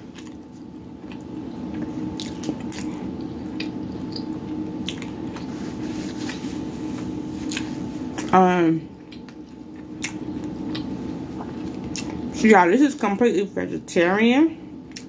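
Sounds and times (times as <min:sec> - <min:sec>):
person chewing with wet mouth sounds: 0:00.0 - 0:12.3.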